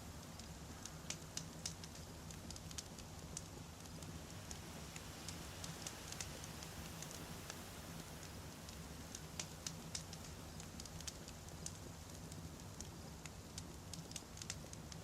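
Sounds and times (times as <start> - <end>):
campfire crackling and popping: 0.2 - 15.0.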